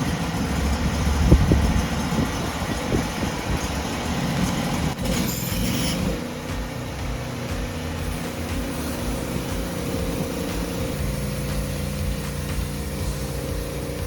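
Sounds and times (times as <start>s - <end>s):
sawmill gasoline engine running: 0.0s - 14.0s.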